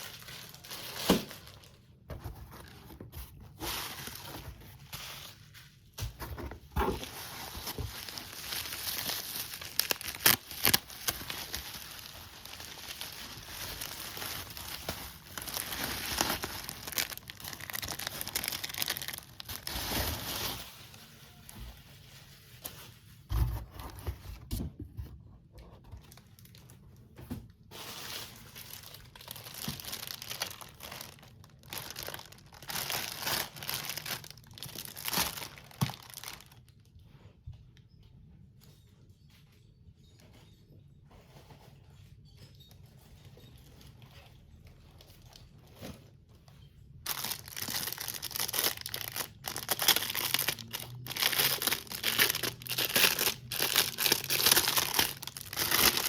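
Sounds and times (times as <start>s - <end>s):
plastic packaging crinkling and tearing: 0.0s - 23.3s, 25.9s - 37.0s, 43.5s - 56.0s.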